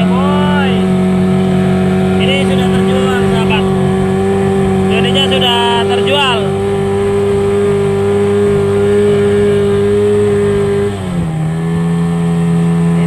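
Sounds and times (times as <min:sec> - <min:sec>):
outboard motor running hard: 0:00.0 - 0:13.0.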